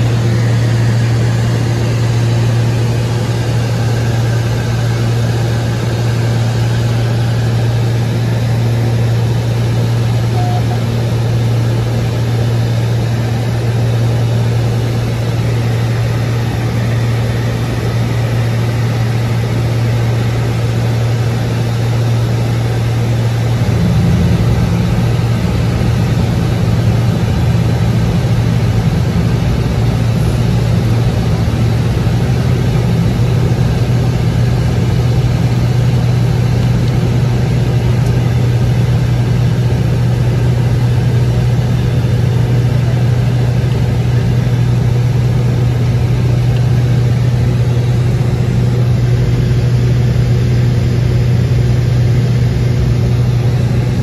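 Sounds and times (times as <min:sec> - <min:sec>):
aircraft engines droning: 0:00.0 - 0:54.0.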